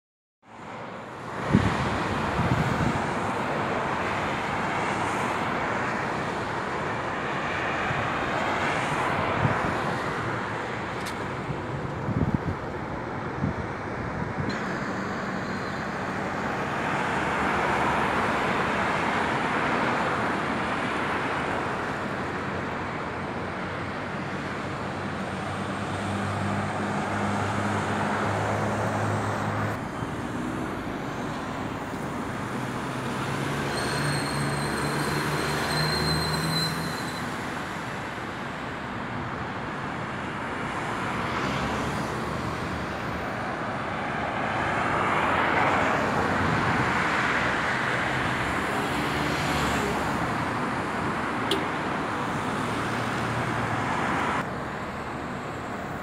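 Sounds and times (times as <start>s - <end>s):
cars passing: 0.5s - 56.0s.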